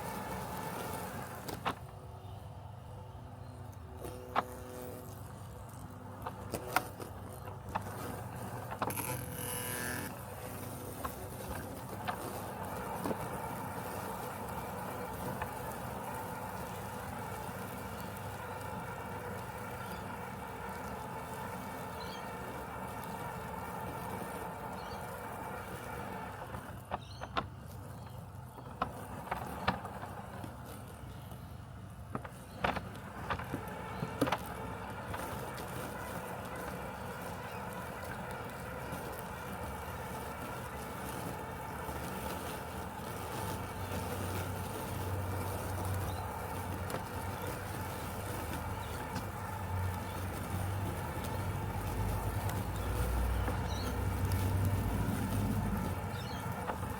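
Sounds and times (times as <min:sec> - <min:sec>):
robotic lawn mower humming: 0:00.0 - 0:56.9.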